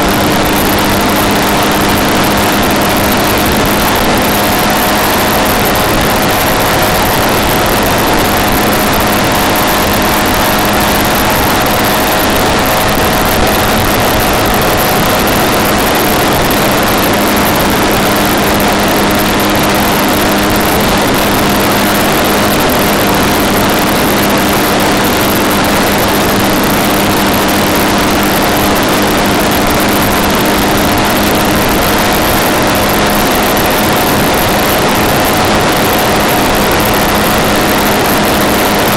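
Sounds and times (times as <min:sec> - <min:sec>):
road and tyre noise: 0:00.0 - 0:38.9
steady engine drone: 0:00.0 - 0:38.9.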